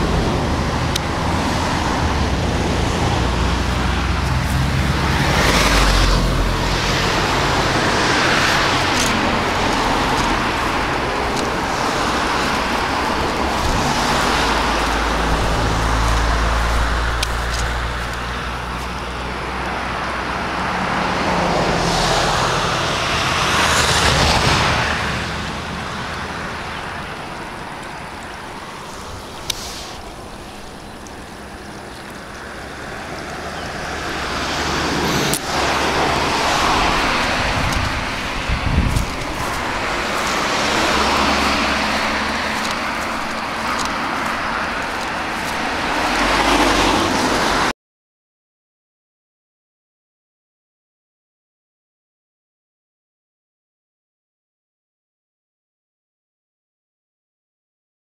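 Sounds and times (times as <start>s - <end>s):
cars passing: 0.0s - 47.7s
steady rushing traffic: 0.0s - 47.7s.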